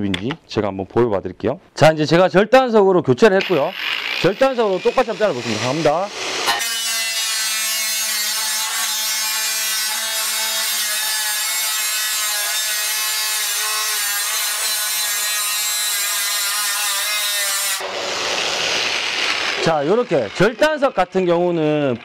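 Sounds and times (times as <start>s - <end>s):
angle grinder cutting sheet steel: 3.3s - 22.0s.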